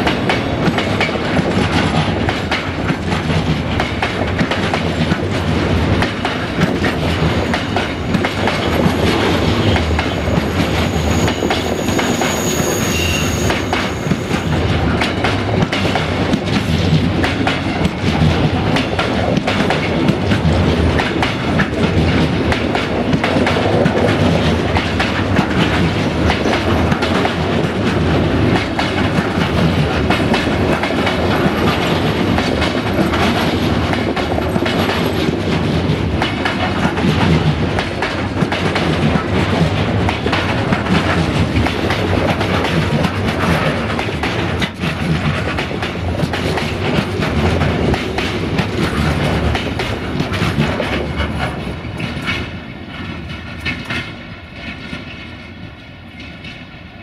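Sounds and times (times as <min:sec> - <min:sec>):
train wheels clattering: 0:00.0 - 0:57.0.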